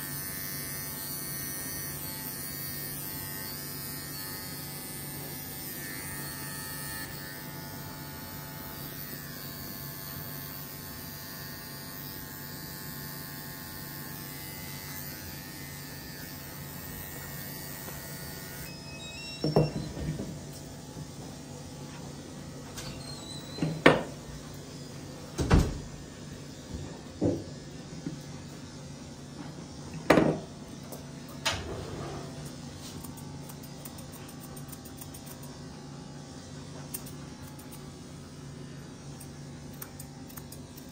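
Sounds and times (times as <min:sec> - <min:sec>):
dog clipper humming: 0:00.0 - 0:40.9.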